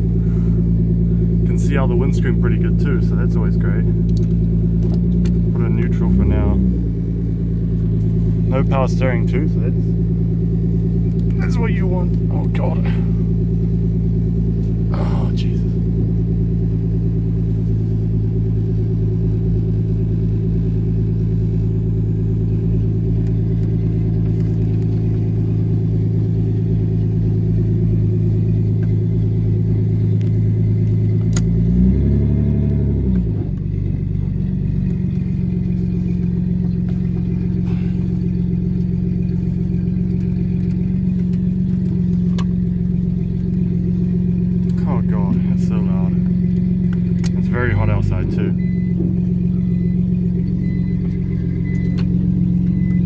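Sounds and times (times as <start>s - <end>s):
engine revving: 0.0s - 17.4s, 21.1s - 53.0s
car engine idling loud: 0.0s - 53.0s.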